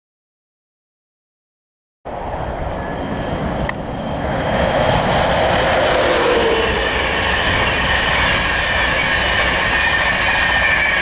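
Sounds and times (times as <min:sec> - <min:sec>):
high ringing hum from rails: 0:02.1 - 0:11.0
train passing at speed: 0:02.1 - 0:11.0.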